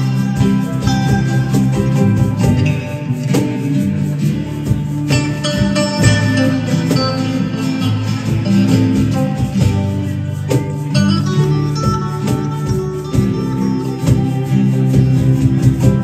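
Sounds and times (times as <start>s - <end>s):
acoustic-electric guitar: 0.0s - 16.0s
electric guitar: 0.0s - 16.0s
hand percussion beat: 0.0s - 16.0s
low bass line: 0.0s - 16.0s.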